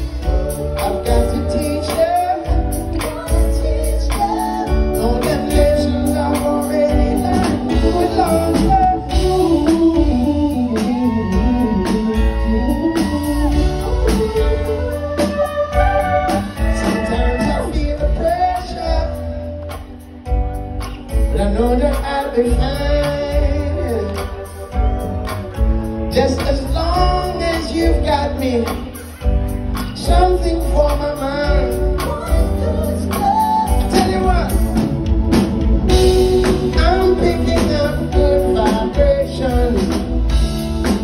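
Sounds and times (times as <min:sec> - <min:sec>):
person singing: 0:00.0 - 0:41.0
reggae band playing: 0:00.0 - 0:41.0.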